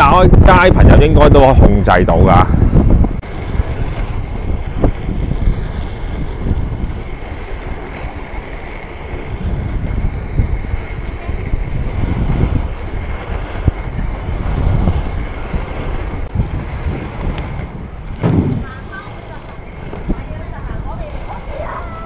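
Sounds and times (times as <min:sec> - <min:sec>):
wind buffeting microphone: 0:00.0 - 0:22.0
roller-skate wheels on pavement: 0:02.7 - 0:22.0.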